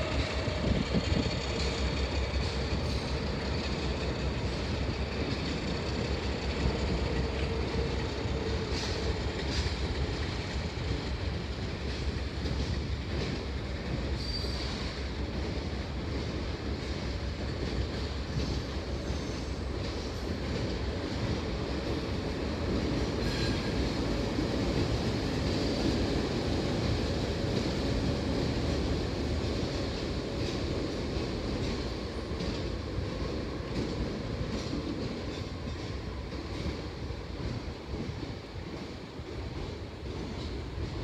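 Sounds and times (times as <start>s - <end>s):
steel wheels rumbling on rail: 0.0s - 41.0s
wheels clicking over rail joints: 0.0s - 41.0s.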